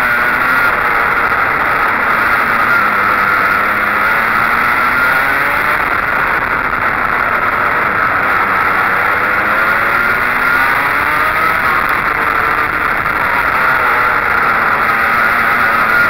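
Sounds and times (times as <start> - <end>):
racing kart engine: 0.0 - 16.0.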